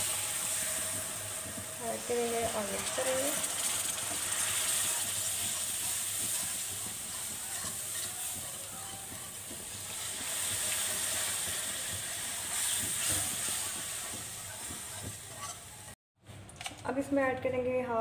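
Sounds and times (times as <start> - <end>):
roux sizzling in a frying pan: 0.0 - 16.0
whisk scraping against pan: 0.1 - 16.0.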